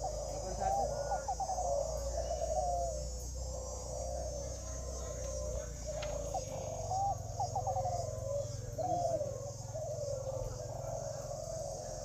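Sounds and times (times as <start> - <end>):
doves cooing: 0.0 - 12.0.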